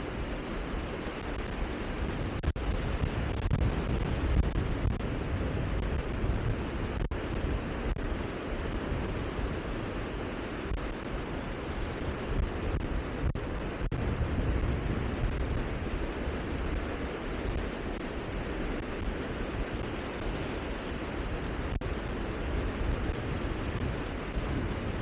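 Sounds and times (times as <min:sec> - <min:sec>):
steady rushing outdoor noise: 0:00.0 - 0:25.0.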